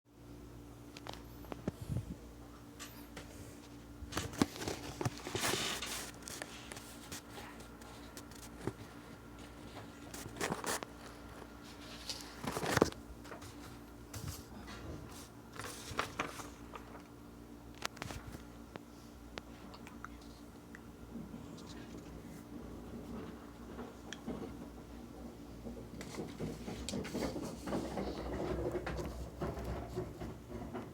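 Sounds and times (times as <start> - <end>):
fan motor hum: 0.1 - 30.9
fan clicks and rattles: 4.0 - 30.9.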